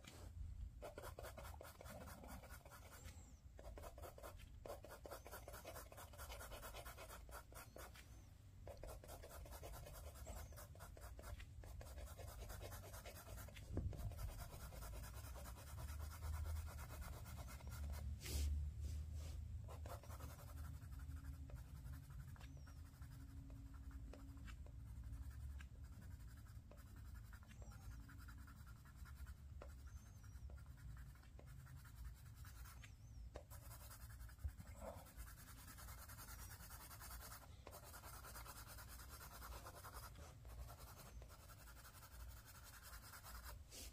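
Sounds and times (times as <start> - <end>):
pencil scratching on paper: 0.8 - 18.5, 19.7 - 43.9.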